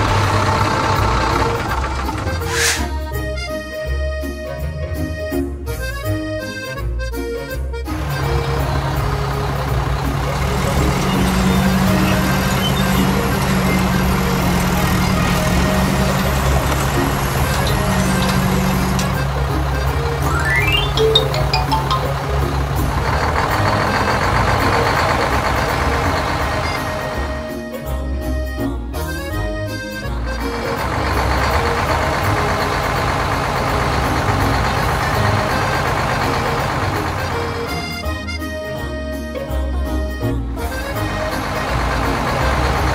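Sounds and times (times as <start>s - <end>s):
heavy engine rumbling: 0.0s - 39.2s, 39.9s - 42.9s.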